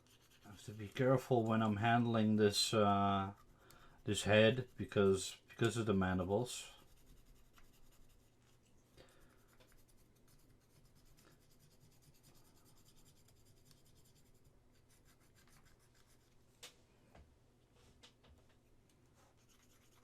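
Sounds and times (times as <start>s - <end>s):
faint rubbing of small parts: 0.0s - 17.1s, 17.7s - 20.0s.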